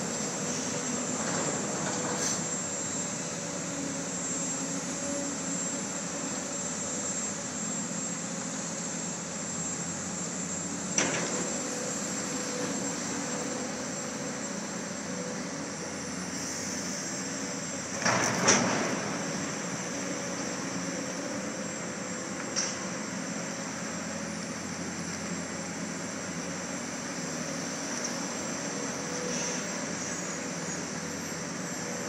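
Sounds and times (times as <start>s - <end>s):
excavator diesel engines: 0.0s - 32.0s.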